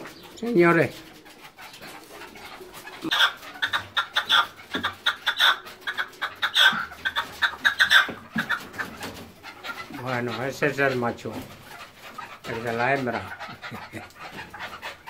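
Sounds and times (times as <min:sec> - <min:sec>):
partridge clucking calls: 0:00.0 - 0:15.0.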